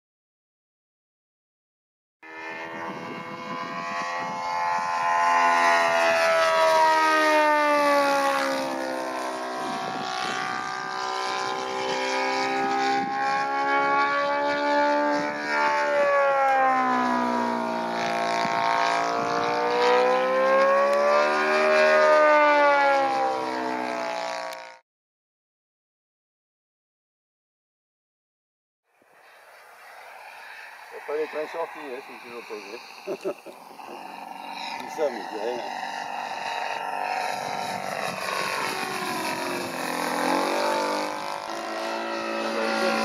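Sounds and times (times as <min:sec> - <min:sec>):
model plane engine flying past: 0:02.2 - 0:24.8, 0:28.9 - 0:43.0.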